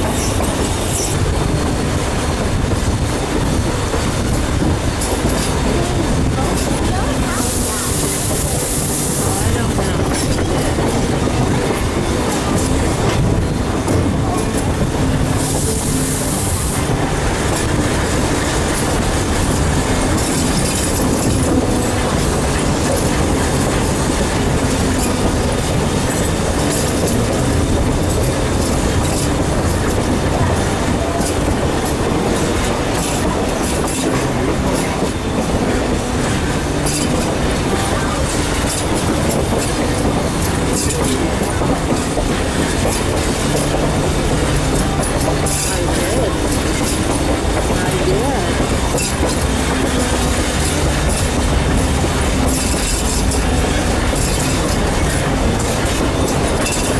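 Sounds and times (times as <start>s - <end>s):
train wheels rumbling on rails: 0.0s - 56.9s
wheels clickety-clack over rail joints: 0.0s - 56.9s.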